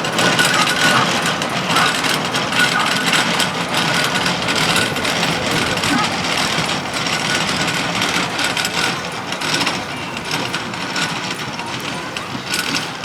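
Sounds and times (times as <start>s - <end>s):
steam engine clatter and hiss: 0.0s - 13.0s.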